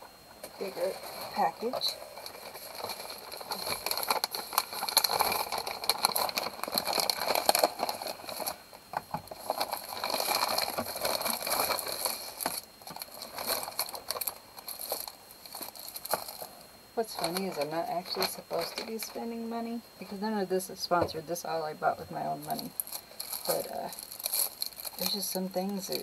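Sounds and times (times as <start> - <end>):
plastic crinkling: 0.4 - 20.2, 22.4 - 26.0.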